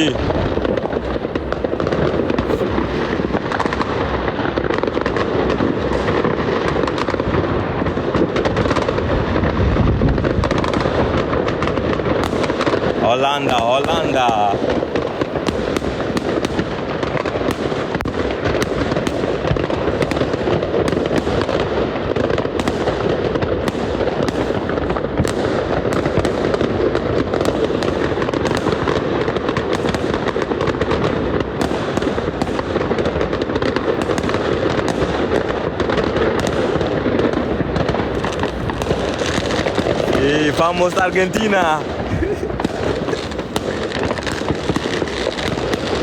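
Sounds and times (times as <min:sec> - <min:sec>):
firecracker bangs: 0:00.0 - 0:46.0
fireworks crackling: 0:00.0 - 0:46.0.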